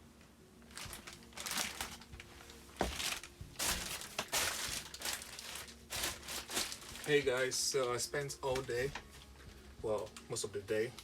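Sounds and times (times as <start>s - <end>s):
rustling and crinkling handling: 0.6s - 11.0s.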